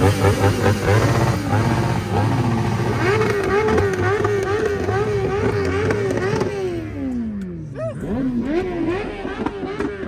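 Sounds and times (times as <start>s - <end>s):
engine revving: 0.0s - 7.2s, 8.0s - 10.0s.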